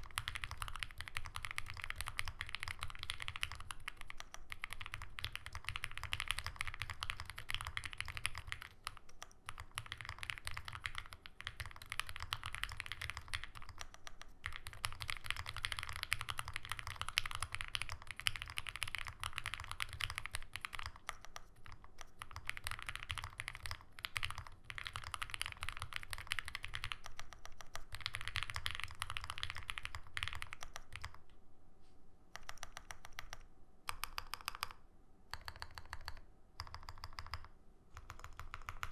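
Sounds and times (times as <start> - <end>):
fast typing on mechanical keyboard: 0.0 - 31.2, 32.4 - 38.9.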